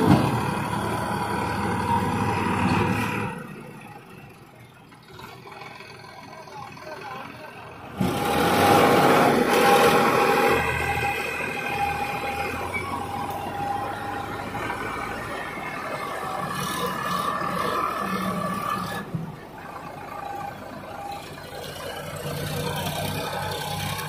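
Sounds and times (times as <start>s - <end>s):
diesel engines working hard: 0.0s - 24.0s.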